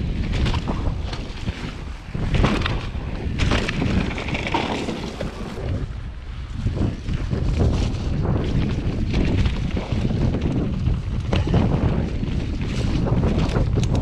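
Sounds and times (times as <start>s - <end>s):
bike knocks and rattles: 0.0s - 5.8s, 6.6s - 14.0s
wind buffeting microphone: 0.0s - 14.0s.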